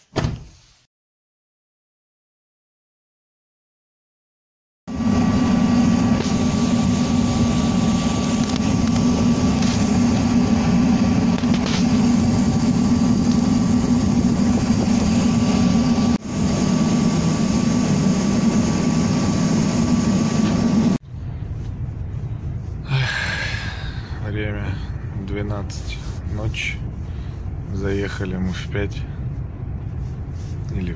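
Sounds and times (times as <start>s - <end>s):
space heater roaring: 4.9s - 30.9s
thin steady whine: 4.9s - 30.9s.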